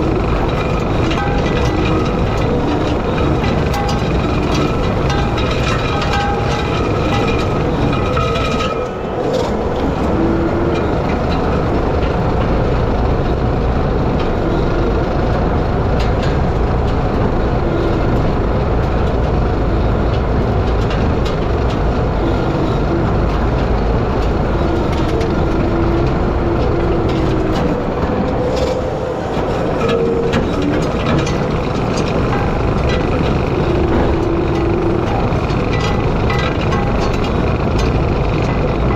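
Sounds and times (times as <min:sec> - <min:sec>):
debris rattling against drum: 0:00.0 - 0:12.5, 0:20.2 - 0:38.9
skid steer engine under load: 0:00.0 - 0:38.9.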